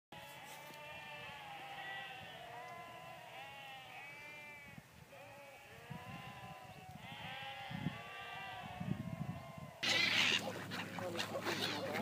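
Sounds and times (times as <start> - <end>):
sheep bleating: 0.2 - 10.4.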